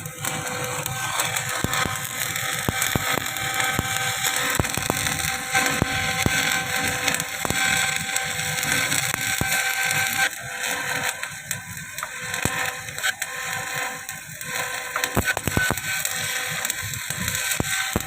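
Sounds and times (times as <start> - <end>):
arc welding crackling hiss: 0.0 - 18.0
sharp welding pops: 0.0 - 18.0.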